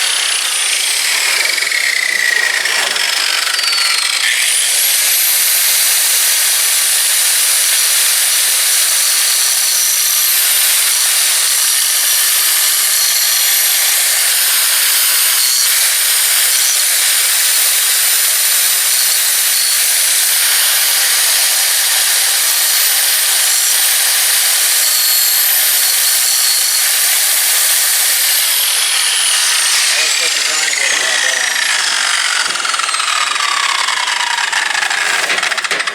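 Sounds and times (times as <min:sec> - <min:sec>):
angle grinder grinding metal: 0:00.0 - 0:35.9.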